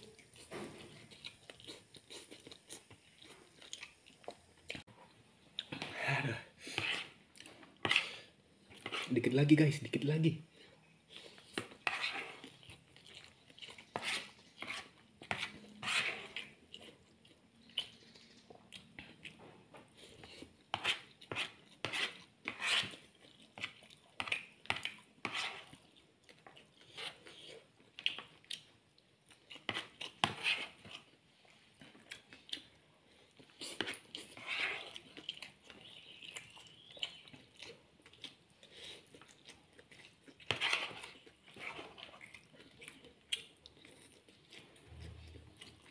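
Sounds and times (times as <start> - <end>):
person slurping and chewing noodles: 0.0 - 4.8, 5.5 - 9.2, 10.6 - 45.9.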